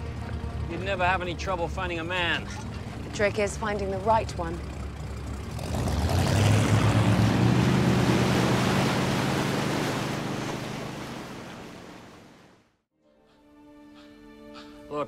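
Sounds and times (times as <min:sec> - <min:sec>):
speedboat engine running: 0:00.0 - 0:12.6
boat wake churning water: 0:00.0 - 0:12.8.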